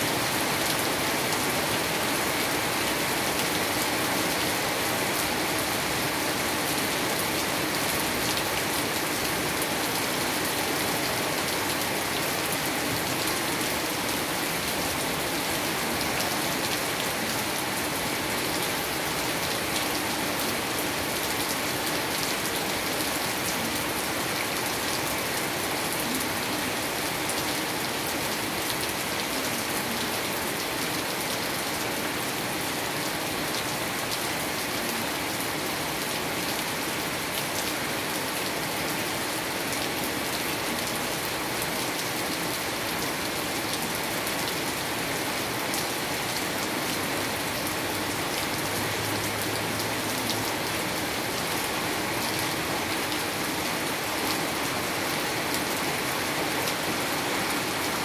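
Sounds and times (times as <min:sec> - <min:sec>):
heavy rain on street and roofs: 0:00.0 - 0:58.0.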